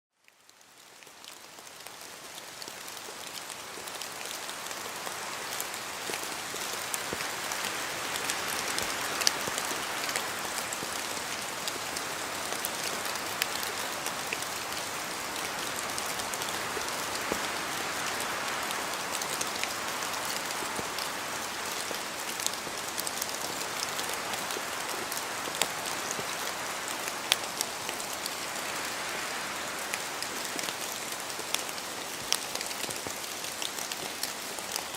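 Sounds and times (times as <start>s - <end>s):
steady hiss of rain: 0.1s - 34.9s
wind in trees: 0.6s - 34.9s.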